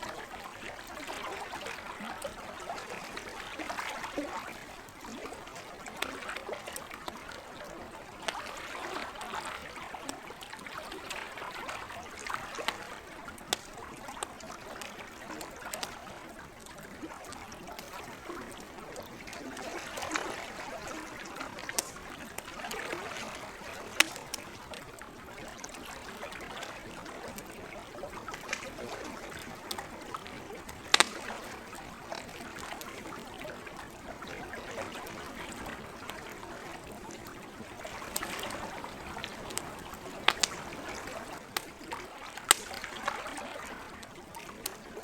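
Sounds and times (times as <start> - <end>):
campfire crackling and popping: 0.0 - 45.0
lake water lapping: 0.0 - 45.0.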